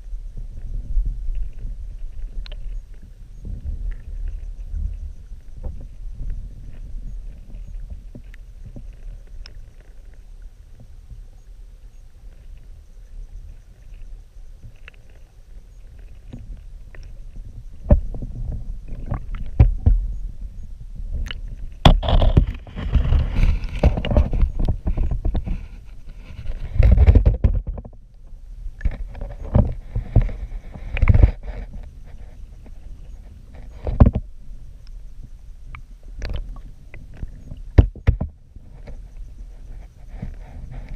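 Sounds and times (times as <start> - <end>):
muffled underwater creek rumbling: 0.0 - 40.9.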